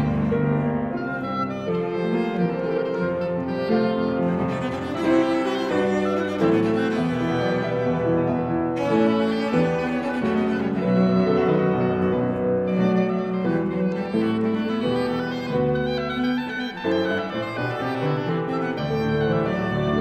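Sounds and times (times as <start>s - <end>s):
cello playing: 0.0s - 20.0s
oboe: 0.0s - 20.0s
piano playing: 0.0s - 20.0s.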